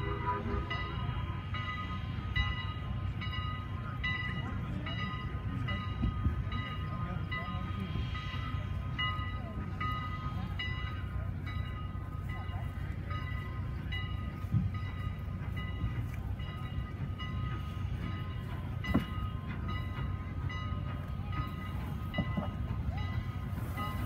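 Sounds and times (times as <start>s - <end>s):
distant train low rumble: 0.0s - 24.0s.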